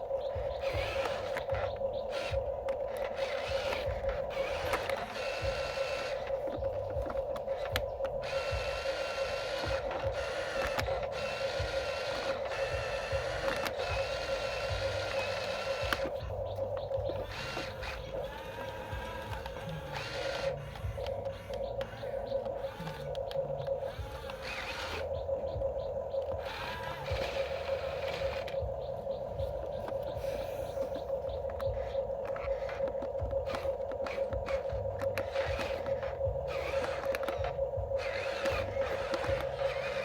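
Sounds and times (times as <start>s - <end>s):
toy electric motors whining: 0.0s - 40.0s.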